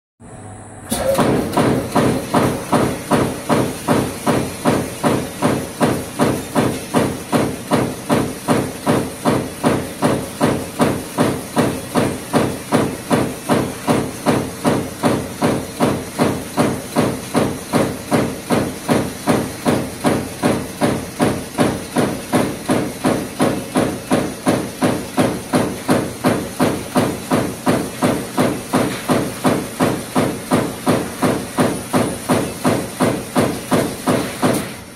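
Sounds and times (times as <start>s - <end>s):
punch press stamping steel: 0.9s - 34.9s.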